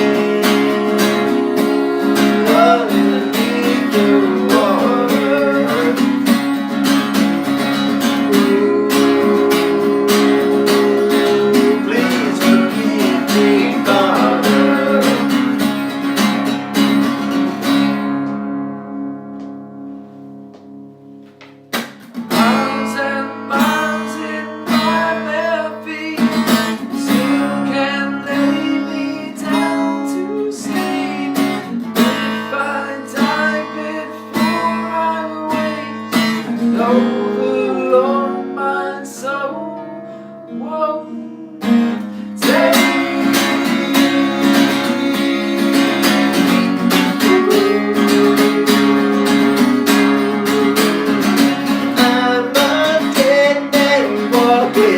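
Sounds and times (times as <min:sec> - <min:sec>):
acoustic guitars playing country: 0:00.0 - 0:54.9.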